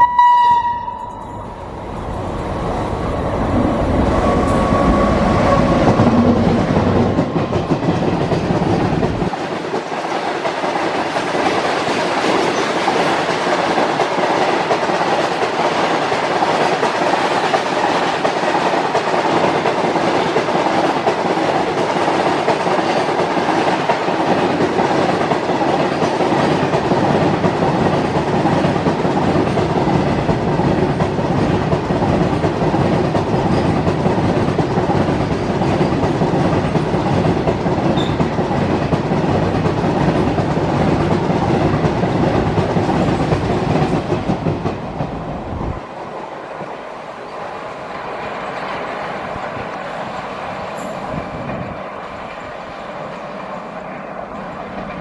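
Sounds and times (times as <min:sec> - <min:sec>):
electric locomotive passing: 0:00.0 - 0:55.0
clickety-clack over rail joints: 0:04.0 - 0:55.0.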